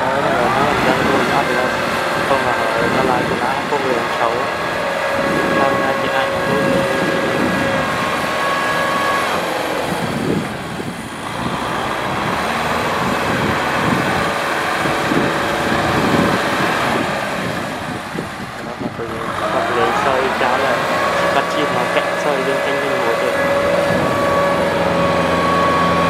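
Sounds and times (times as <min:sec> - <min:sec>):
steady high whine: 0:00.0 - 0:26.0
tractor engine under load: 0:00.0 - 0:26.0.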